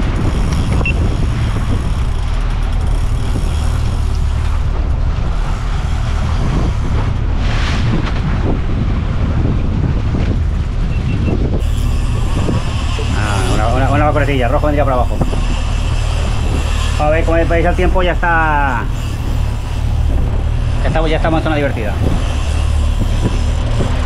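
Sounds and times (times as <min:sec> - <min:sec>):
boat engine rumbling: 0:00.0 - 0:24.0
wind buffeting microphone: 0:00.0 - 0:24.0.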